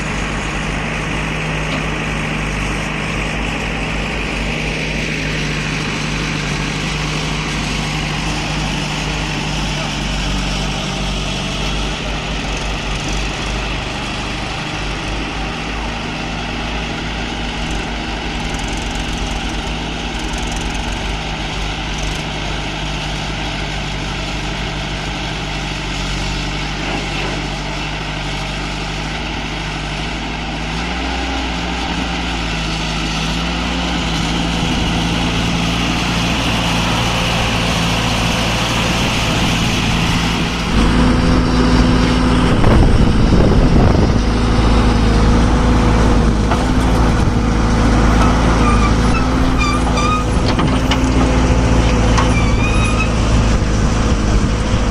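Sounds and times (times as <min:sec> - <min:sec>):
heavy machinery diesel engines: 0:00.0 - 0:54.9.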